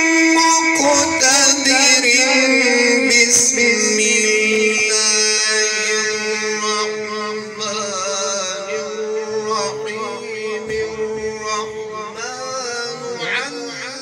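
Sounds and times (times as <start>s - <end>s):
man chanting melodic recitation: 0.0s - 14.0s.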